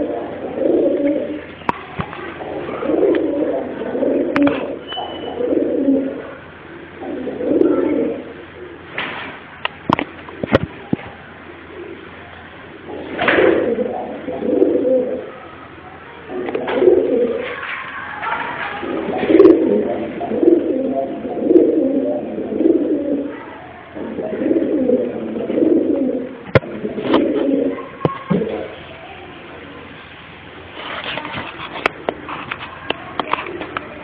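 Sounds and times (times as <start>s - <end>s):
pigeons cooing: 0.0s - 1.6s, 2.2s - 9.0s, 11.3s - 28.8s, 31.9s - 34.0s.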